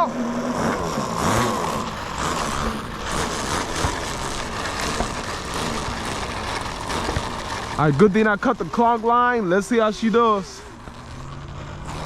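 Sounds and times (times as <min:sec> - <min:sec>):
model airplane motor running: 0:00.0 - 0:12.0.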